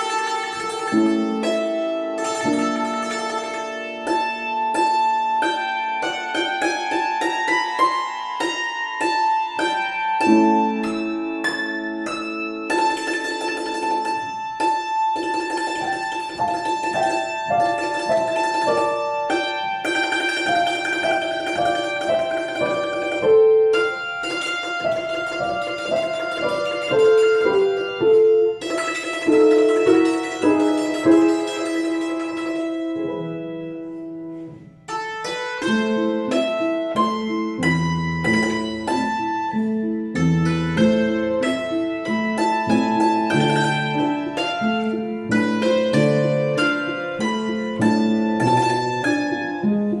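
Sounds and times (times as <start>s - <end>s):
plucked string instrument melody: 0.0s - 50.0s
piano accompaniment: 9.0s - 50.0s.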